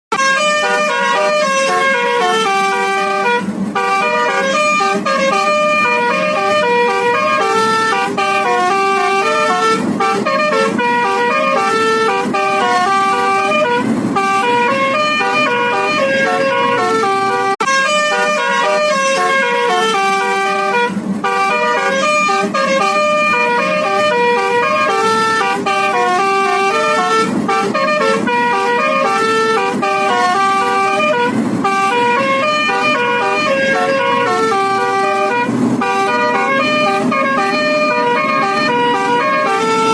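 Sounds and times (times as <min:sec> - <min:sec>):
musical bus horn melody: 0:00.1 - 0:39.9.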